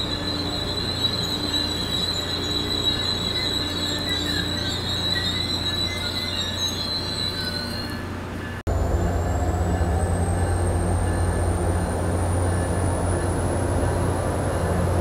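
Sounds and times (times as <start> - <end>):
train wheels squealing: 0.0 - 15.0.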